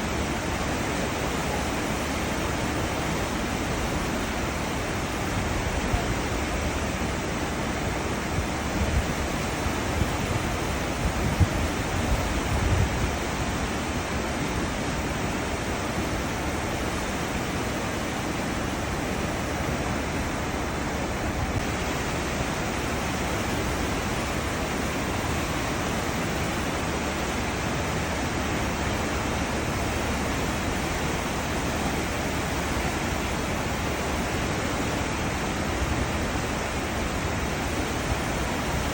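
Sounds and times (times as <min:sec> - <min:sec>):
churning seawater rushing: 0:00.0 - 0:38.9.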